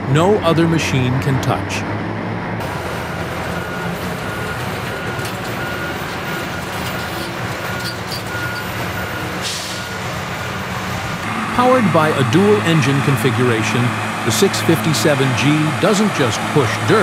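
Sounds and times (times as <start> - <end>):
diesel engines running under load: 0.0 - 17.0.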